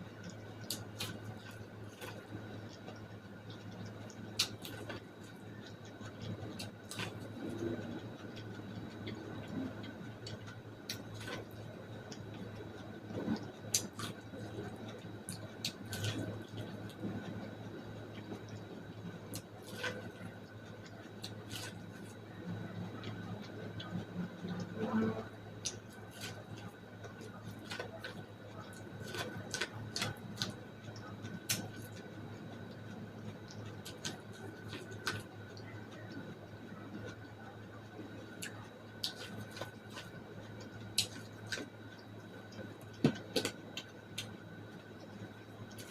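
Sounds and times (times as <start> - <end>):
faint steady hum: 0.0 - 45.9
mouth chewing corn: 0.6 - 17.5, 18.1 - 44.4.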